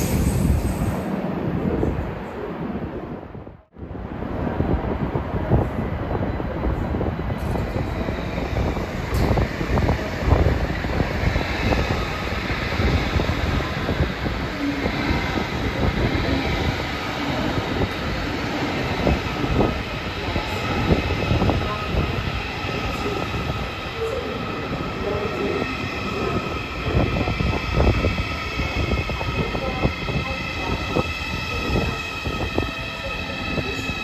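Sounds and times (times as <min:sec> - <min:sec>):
train wheels rumbling on rails: 0:00.0 - 0:02.2, 0:04.1 - 0:34.0.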